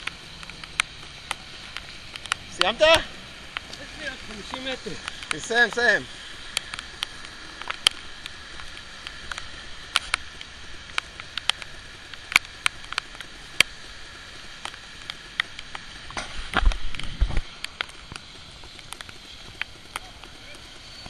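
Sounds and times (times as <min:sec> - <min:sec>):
heavy rain on pavement: 0:00.0 - 0:21.0
sharp rain ticks: 0:00.0 - 0:21.0.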